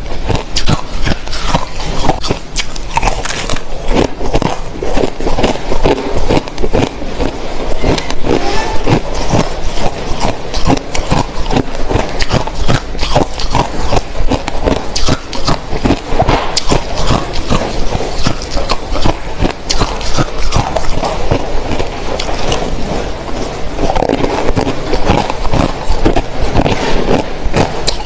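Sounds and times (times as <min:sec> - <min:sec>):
chewing crushed ice: 0:00.0 - 0:28.0.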